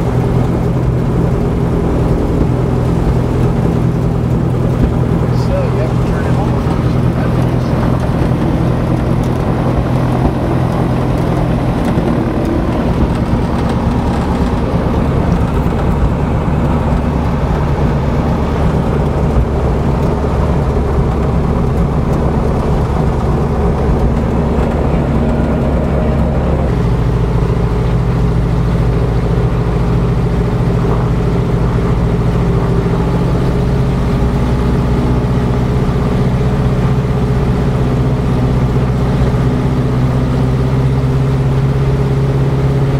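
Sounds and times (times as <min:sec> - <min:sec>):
aircraft piston engine running: 0:00.0 - 0:42.9.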